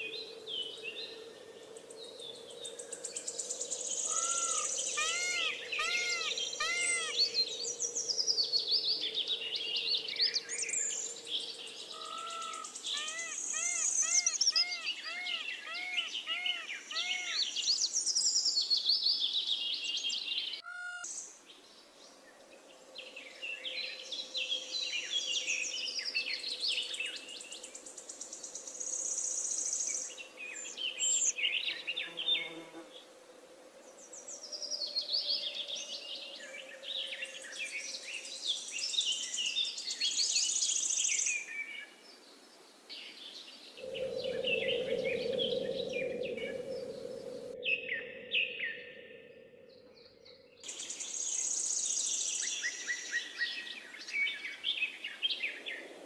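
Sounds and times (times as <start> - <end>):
birds singing and chirping: 0.0 - 21.3, 23.0 - 32.6, 33.9 - 55.9.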